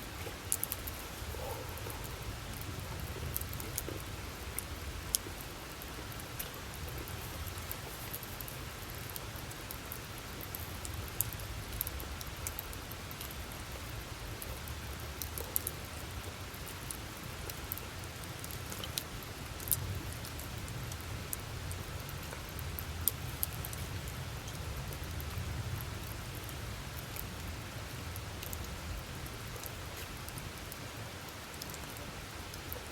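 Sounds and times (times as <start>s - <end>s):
wood crackling and popping: 0.0s - 27.4s
campfire flame rumbling: 0.0s - 32.9s.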